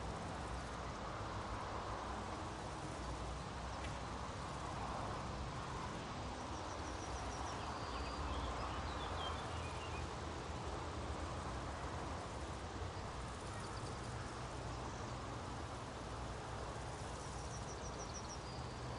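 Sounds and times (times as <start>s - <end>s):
soft steady hiss: 0.0s - 18.9s.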